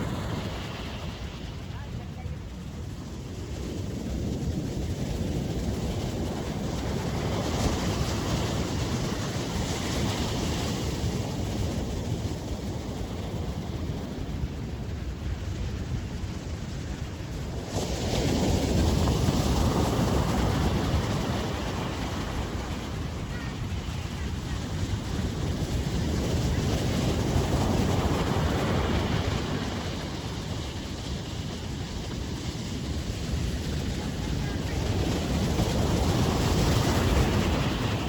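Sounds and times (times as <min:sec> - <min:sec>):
ocean surf washing onto beach: 0:00.0 - 0:38.0
wind rumbling on microphone: 0:00.0 - 0:38.0.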